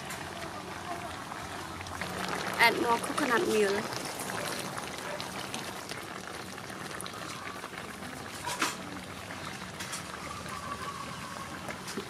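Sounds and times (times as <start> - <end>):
curry bubbling in a pot: 0.0 - 12.0
liquid pouring into a pot: 0.0 - 12.0.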